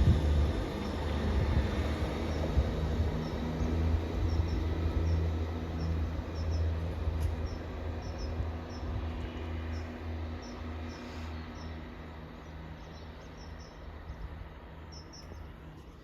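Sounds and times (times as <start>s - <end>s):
diesel train engine rumbling: 0.0s - 16.0s.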